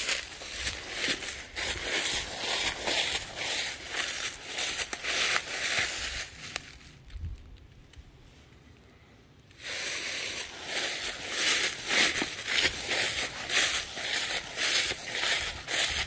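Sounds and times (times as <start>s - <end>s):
footsteps crunching dry leaves: 0.0s - 7.1s, 9.6s - 16.0s.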